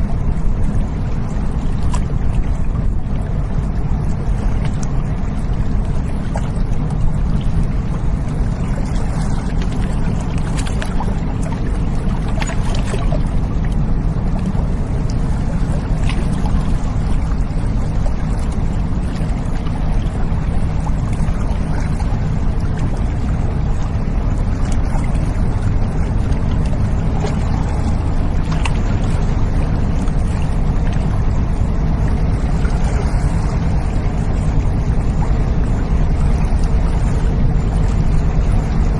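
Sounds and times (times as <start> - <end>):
ship engine drone: 0.0 - 38.9
water noise: 0.0 - 38.9.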